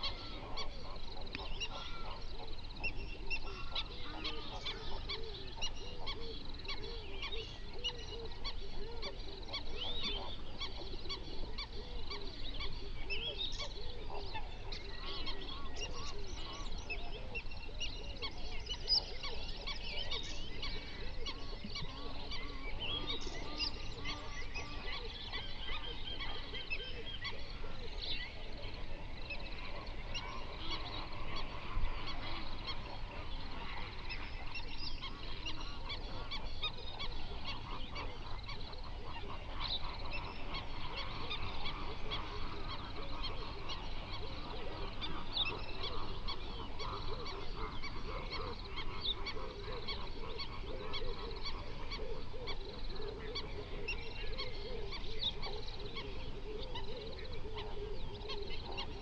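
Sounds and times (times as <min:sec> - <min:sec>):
flock of flamingos honking: 0:00.0 - 0:59.0.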